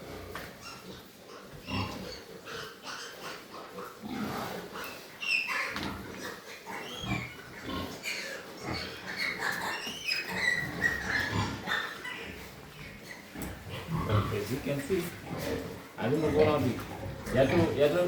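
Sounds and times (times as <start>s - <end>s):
pigs grunting: 0.0s - 18.0s
pigs squealing: 0.0s - 18.0s.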